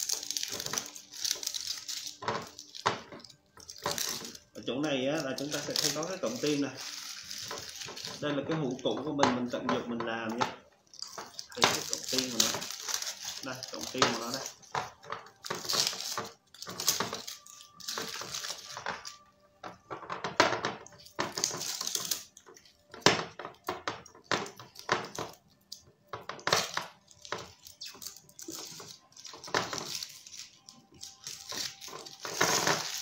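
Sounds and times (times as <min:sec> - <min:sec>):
aluminium foil crinkling: 0:00.0 - 0:33.0.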